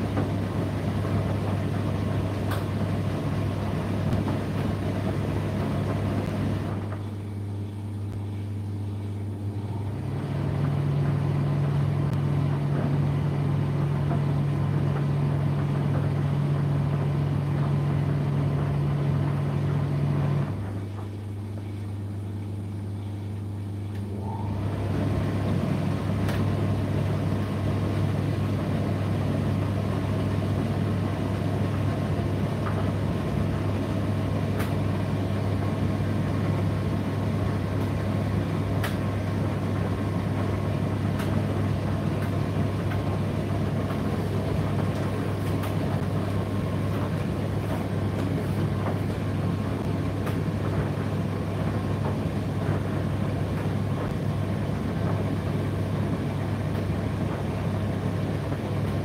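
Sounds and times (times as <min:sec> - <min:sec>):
tumble dryer motor hum: 0:00.0 - 0:59.0.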